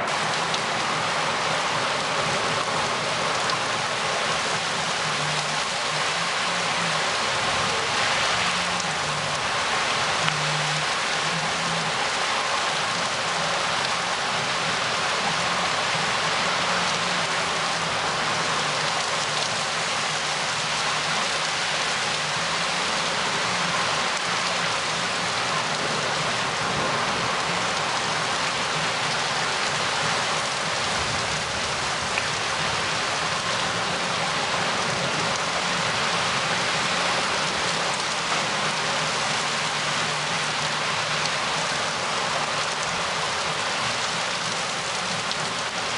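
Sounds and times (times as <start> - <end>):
heavy rain downpour: 0.0 - 45.9.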